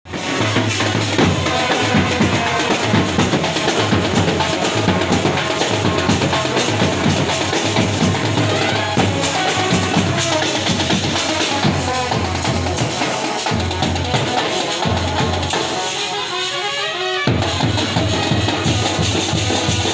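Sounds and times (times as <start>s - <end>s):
heavy drumming: 0.1s - 19.9s
procession band playing: 0.1s - 19.9s.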